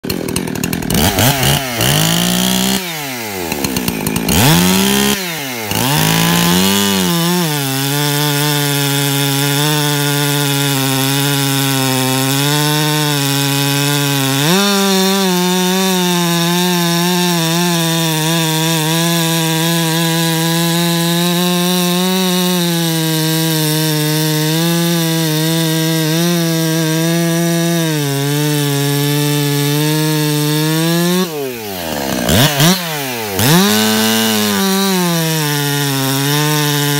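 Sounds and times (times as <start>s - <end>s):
chainsaw revving and cutting log: 0.0s - 36.9s.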